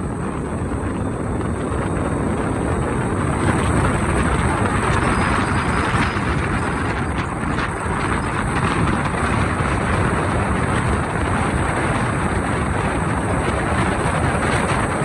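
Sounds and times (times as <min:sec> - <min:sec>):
car tyre noise on road: 0:00.0 - 0:15.0.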